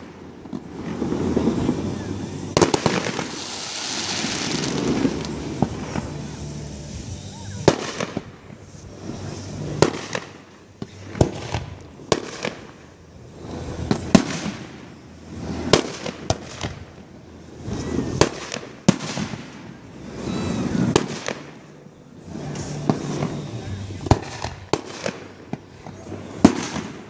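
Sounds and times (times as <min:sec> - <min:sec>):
fireworks bursting: 0:00.0 - 0:27.0
rumbling wash of sound: 0:00.0 - 0:27.0.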